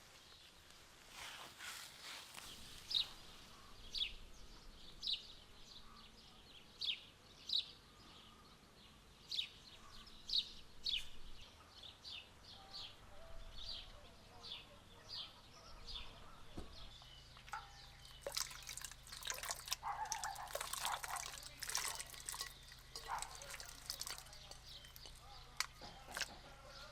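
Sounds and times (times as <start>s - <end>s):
bird chirping: 2.4s - 26.9s.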